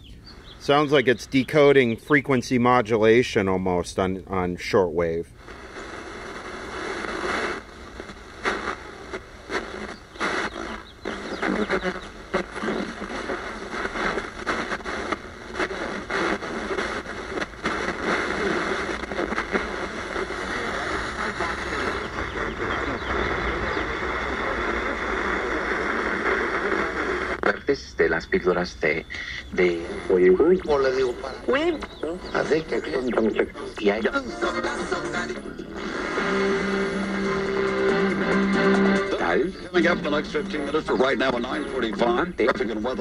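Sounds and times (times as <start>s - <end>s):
radio crackling and popping: 0.0s - 43.0s
radio static and hiss: 0.0s - 43.0s.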